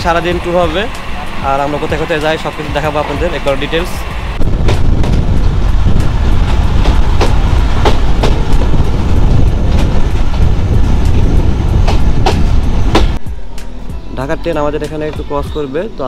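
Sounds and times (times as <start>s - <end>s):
train low rumble: 0.0s - 16.0s
wheels clacking over rail joints: 0.1s - 13.2s.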